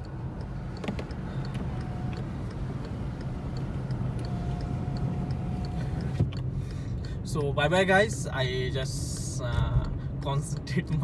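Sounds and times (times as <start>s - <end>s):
car engine and road hum: 0.0s - 11.0s
light regular ticking: 0.0s - 11.0s.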